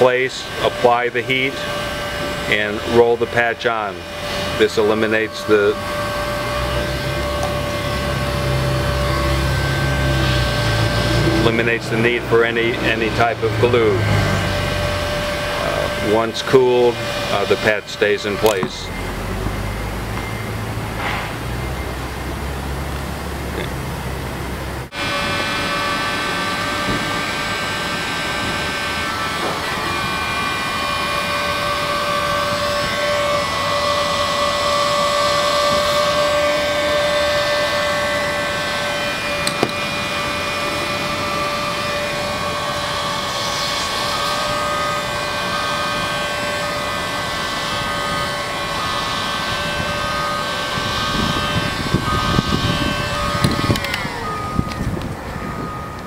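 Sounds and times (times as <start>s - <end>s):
hot air gun whining: 0.0s - 56.0s.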